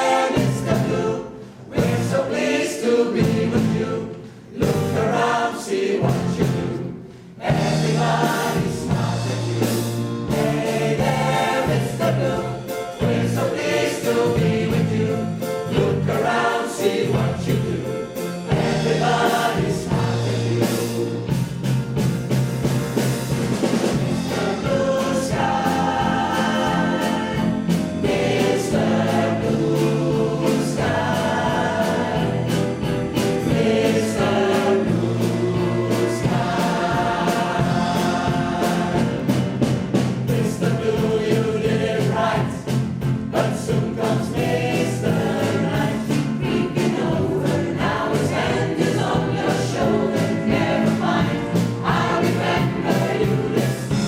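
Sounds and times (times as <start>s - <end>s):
choir singing: 0.0s - 21.6s, 23.7s - 54.0s.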